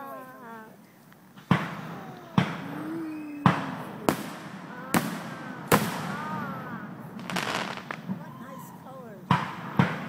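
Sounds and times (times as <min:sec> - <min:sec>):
fireworks bursting with sharp bangs: 0:01.4 - 0:10.0.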